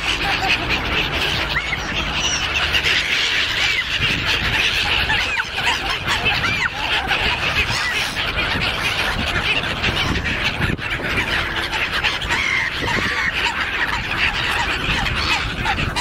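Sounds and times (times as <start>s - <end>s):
gulls screeching: 0.0s - 16.0s.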